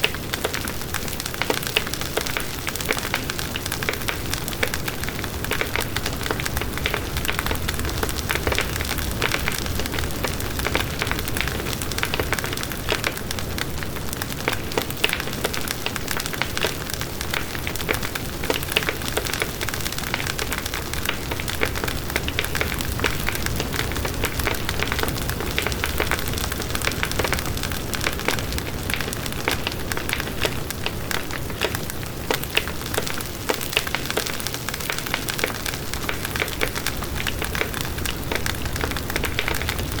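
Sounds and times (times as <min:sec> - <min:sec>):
campfire crackling: 0:00.0 - 0:40.0
low rumble of fire: 0:00.1 - 0:40.0.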